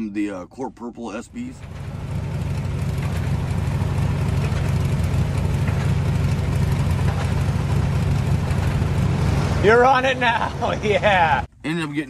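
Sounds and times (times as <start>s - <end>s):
sports car engine idling: 1.4s - 11.4s.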